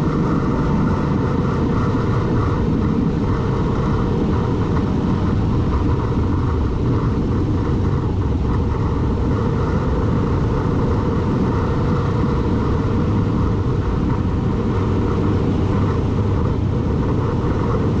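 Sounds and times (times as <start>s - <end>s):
vehicle rumbling: 0.0s - 18.0s.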